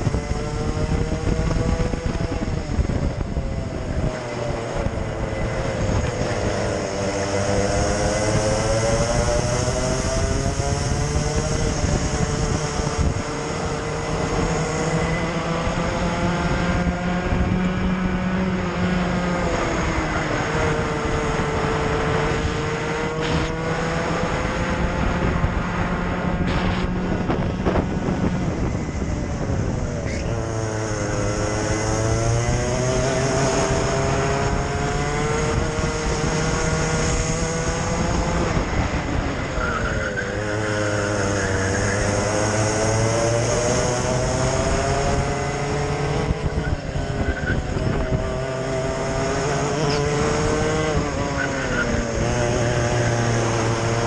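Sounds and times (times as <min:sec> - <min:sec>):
kart engine revving: 0:00.0 - 0:54.0
other kart engines: 0:00.0 - 0:54.0.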